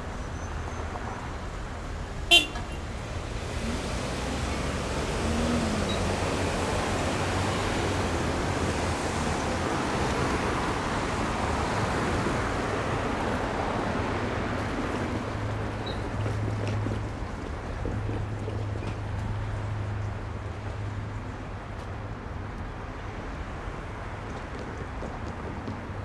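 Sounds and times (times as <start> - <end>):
car tyres and engines: 0.0 - 26.0.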